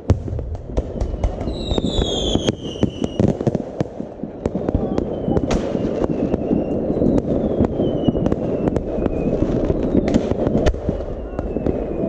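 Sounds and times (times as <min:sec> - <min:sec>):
fireworks bangs and crackles: 0:00.0 - 0:12.0
whistling fireworks: 0:00.0 - 0:12.0.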